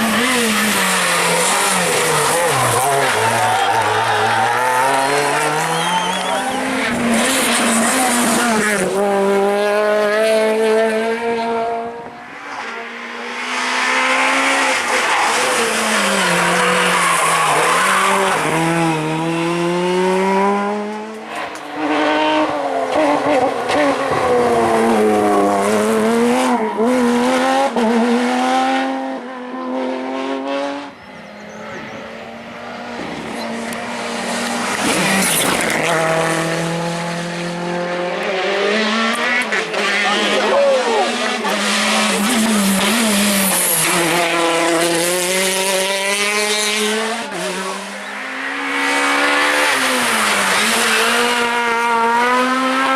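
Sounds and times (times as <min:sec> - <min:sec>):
rally car engines revving: 0:00.0 - 0:52.9.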